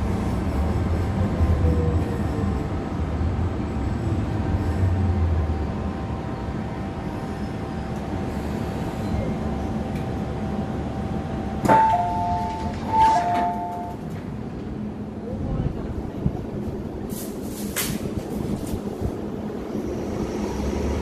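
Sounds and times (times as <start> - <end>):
train slowing to a stop: 0.0 - 21.0.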